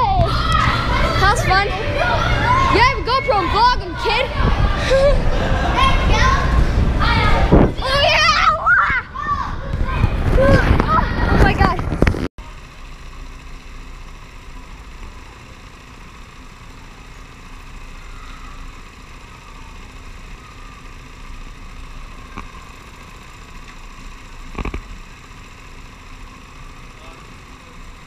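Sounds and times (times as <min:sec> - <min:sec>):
go-kart engines idling: 0:00.0 - 0:08.6, 0:12.4 - 0:28.0.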